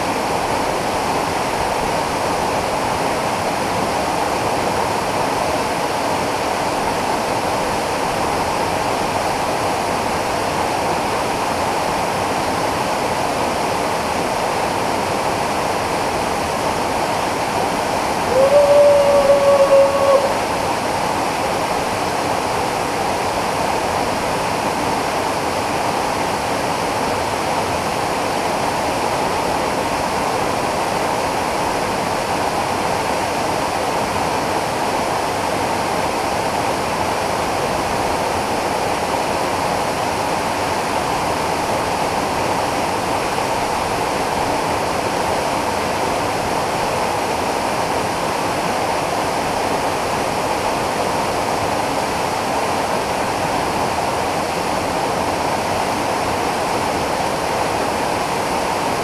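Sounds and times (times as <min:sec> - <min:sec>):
waterfall rushing into pool: 0:00.0 - 0:59.0.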